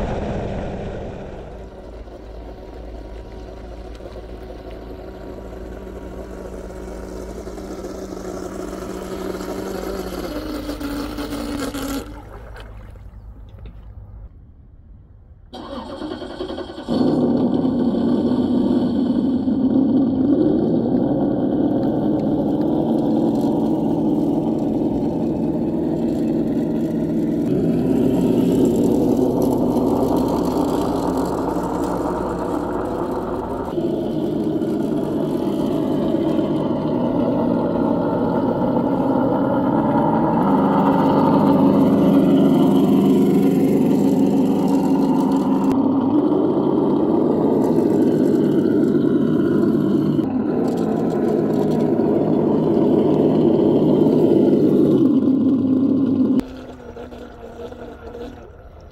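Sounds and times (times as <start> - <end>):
simulated engine sound: 0.0 - 13.4, 14.8 - 58.9.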